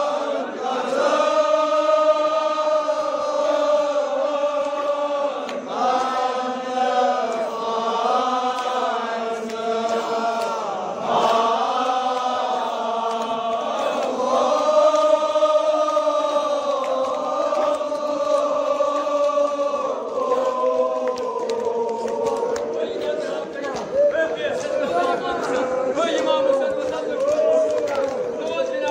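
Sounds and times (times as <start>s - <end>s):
men chanting together: 0.0s - 28.9s.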